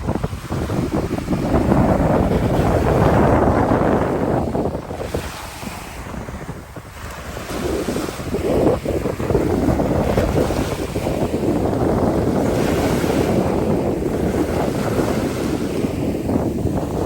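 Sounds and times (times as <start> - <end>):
sea surf washing: 0.0 - 17.0
wind buffeting microphone: 0.0 - 17.0.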